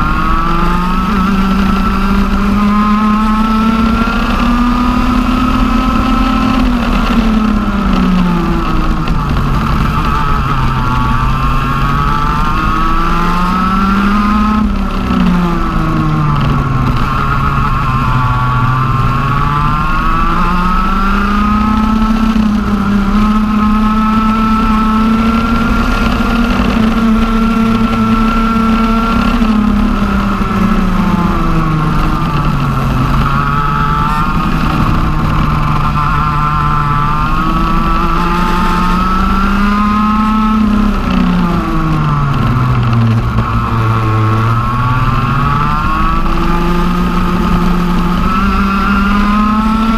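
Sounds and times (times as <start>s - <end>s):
kart engine racing: 0.0s - 49.9s.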